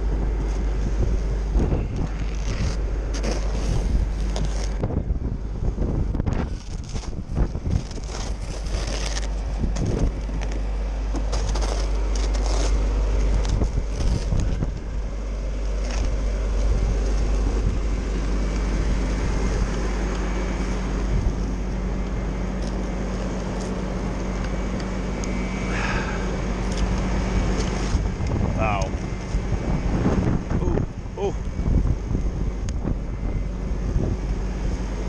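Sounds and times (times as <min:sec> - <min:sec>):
wind buffeting microphone: 0:00.0 - 0:11.7, 0:13.2 - 0:15.2, 0:15.9 - 0:35.0
steady low hum: 0:00.0 - 0:35.0
crackling crunches: 0:00.3 - 0:05.0, 0:06.1 - 0:30.7.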